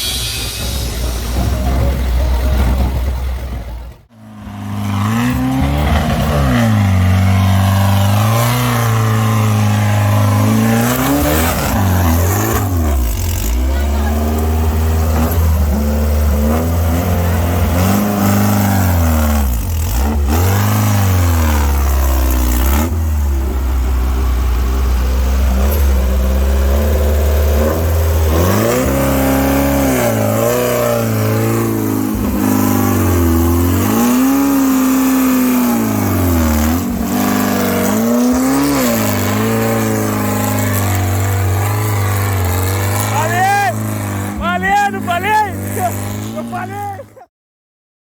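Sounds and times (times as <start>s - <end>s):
buggy engine revving: 0.0s - 47.3s.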